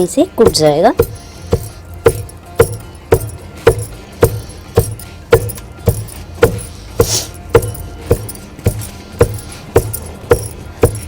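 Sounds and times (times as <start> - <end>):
pestle pounding in metal mortar: 0.0 - 11.0.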